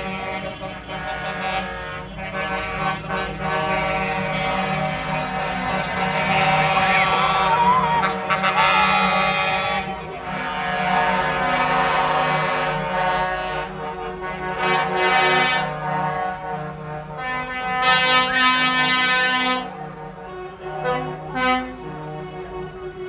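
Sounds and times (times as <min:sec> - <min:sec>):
horns blasting: 0:00.0 - 0:23.0
tractor engines passing: 0:00.0 - 0:23.0.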